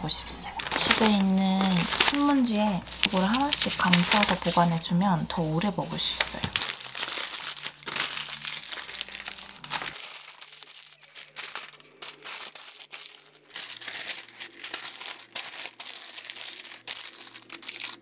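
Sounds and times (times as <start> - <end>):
newspaper crumpling: 0.2 - 18.0.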